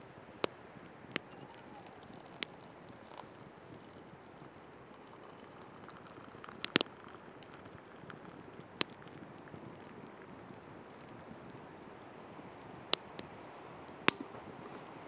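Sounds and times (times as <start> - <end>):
fire pops: 0.0 - 15.0
wood fire crackling: 0.0 - 15.0.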